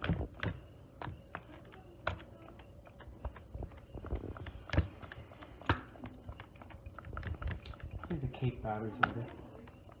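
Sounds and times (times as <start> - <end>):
egg beater clicking and rattling: 0.0 - 10.0.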